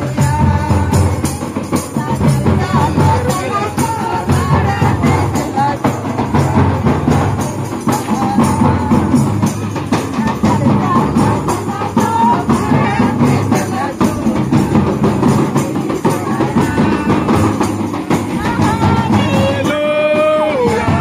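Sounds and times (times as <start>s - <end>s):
jingling percussion: 0.0s - 21.0s
steady drumming: 0.0s - 21.0s.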